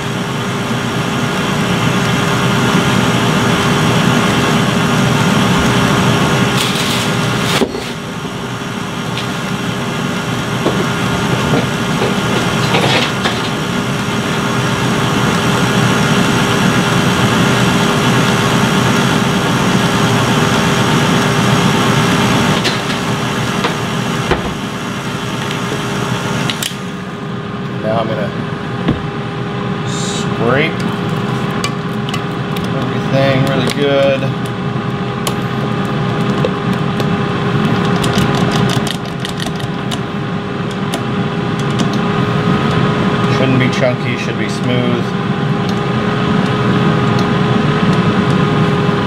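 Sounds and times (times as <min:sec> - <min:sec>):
stand mixer running: 0:00.0 - 0:49.0.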